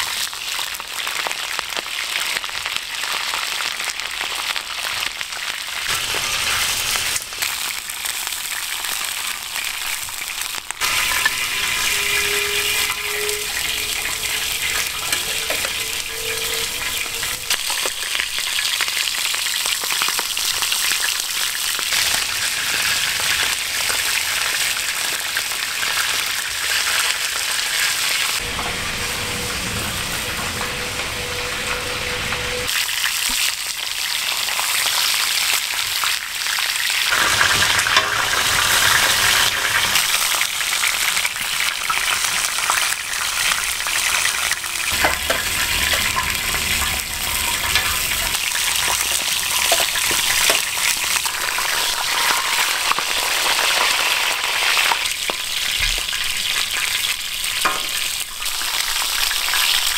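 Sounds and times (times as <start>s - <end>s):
meat sizzling on a griddle: 0.0s - 59.9s.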